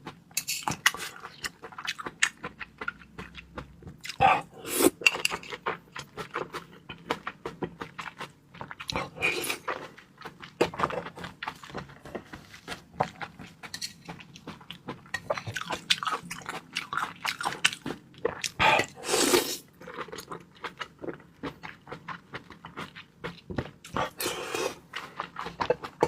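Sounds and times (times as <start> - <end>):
wet chewing with smacks: 0.1 - 4.3, 5.4 - 18.6, 19.7 - 26.0.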